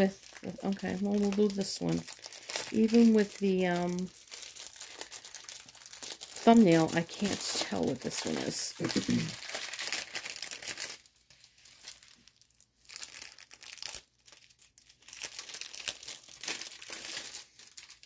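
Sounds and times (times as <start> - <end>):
plastic wrap crinkling and tearing: 0.0 - 18.0.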